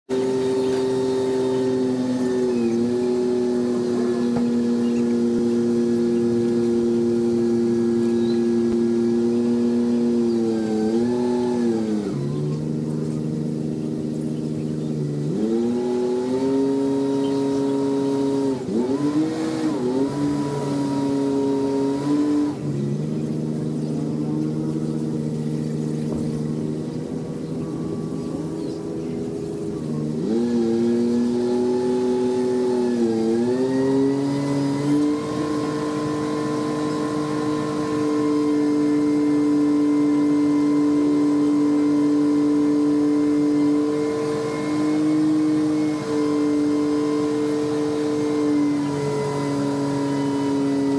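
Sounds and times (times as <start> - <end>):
diesel crane engine revving: 0.1 - 50.9.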